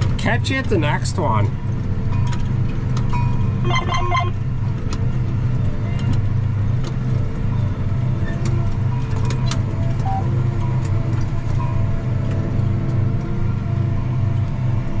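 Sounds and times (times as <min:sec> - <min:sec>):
vehicle engine drone: 0:00.0 - 0:15.0
rattles and clicks: 0:01.6 - 0:15.0.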